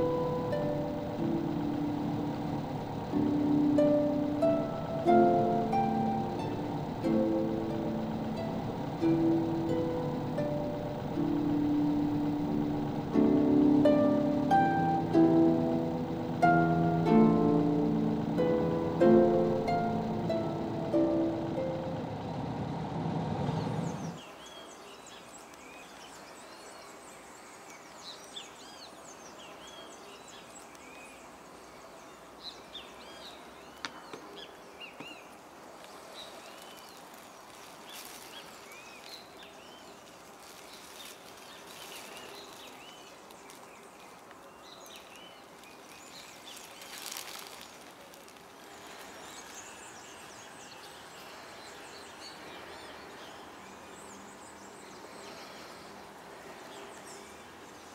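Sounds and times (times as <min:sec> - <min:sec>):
faint background hiss: 0:00.0 - 0:57.9
small birds chirping: 0:00.0 - 0:57.9.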